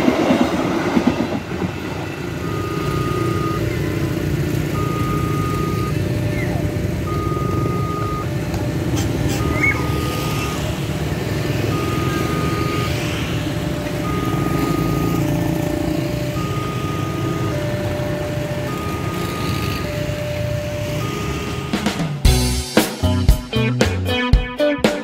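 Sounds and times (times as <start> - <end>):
level-crossing warning alarm: 1.0 - 22.3
motorcycle engines running: 2.2 - 22.4.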